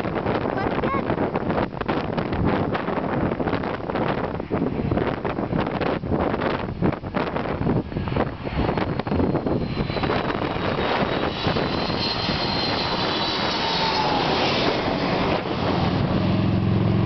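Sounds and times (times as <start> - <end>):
airliner engines roaring: 0.0 - 17.0.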